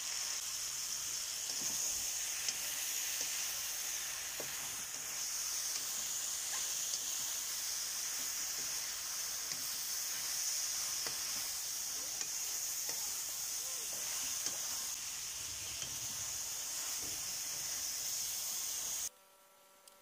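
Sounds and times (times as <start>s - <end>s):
vegetables sizzling in a pan: 0.0s - 19.1s
spatula stirring: 1.1s - 19.1s.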